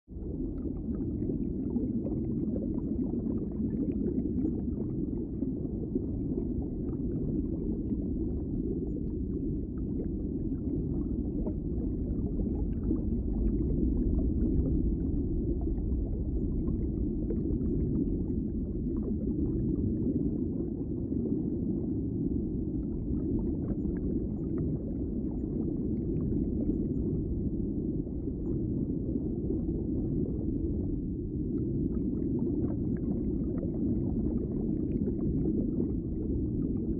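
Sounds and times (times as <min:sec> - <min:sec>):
muffled underwater rumble: 0:00.0 - 0:36.9.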